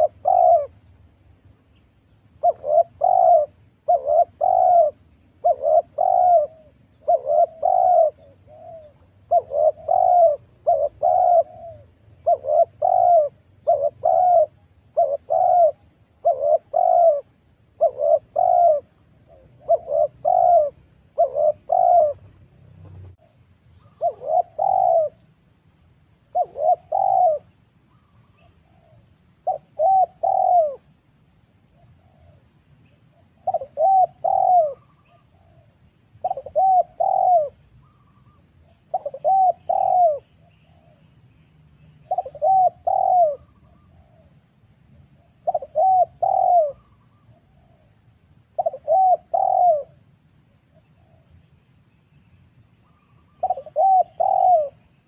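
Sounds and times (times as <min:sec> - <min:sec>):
dove cooing: 0:00.0 - 0:01.4, 0:02.0 - 0:25.5, 0:26.2 - 0:31.0, 0:31.7 - 0:41.2, 0:42.0 - 0:51.5, 0:52.8 - 0:55.0.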